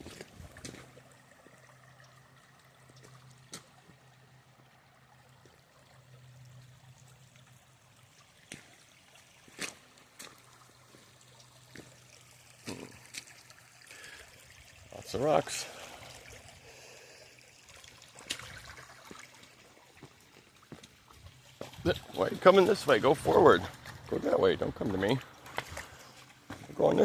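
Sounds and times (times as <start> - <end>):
water trickling over rocks: 0.0 - 27.0.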